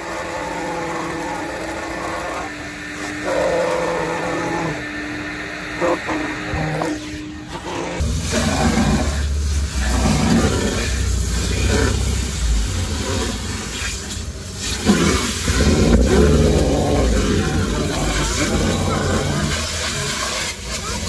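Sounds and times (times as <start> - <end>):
vacuum hose sucking: 0.0 - 21.0.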